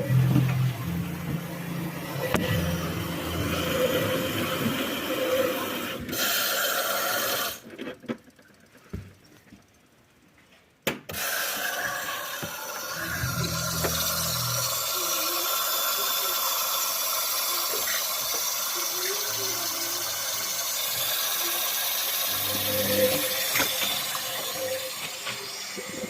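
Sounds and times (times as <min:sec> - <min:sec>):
washing machine water and drum: 0:00.0 - 0:09.2, 0:11.1 - 0:26.0.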